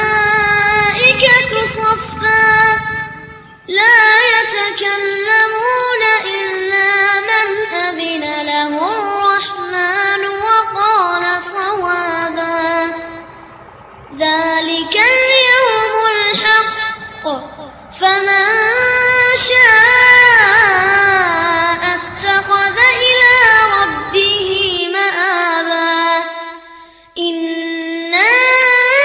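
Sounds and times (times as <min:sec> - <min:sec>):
high-pitched singing voice: 0:00.0 - 0:13.3, 0:14.1 - 0:29.0.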